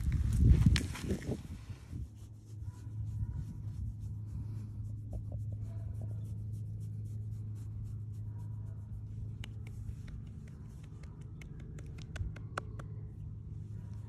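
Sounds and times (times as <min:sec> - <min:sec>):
steady low hum: 0:00.0 - 0:14.0
hand rubbing puppy fur: 0:00.3 - 0:14.0.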